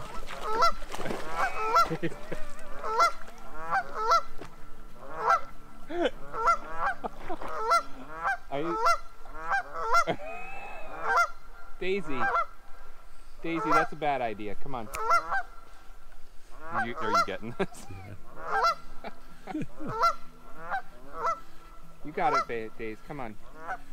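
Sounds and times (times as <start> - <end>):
geese honking: 0.0 - 23.9.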